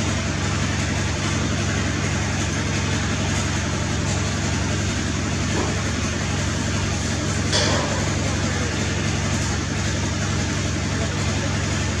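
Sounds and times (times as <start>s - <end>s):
motor engine idling: 0.0s - 12.0s.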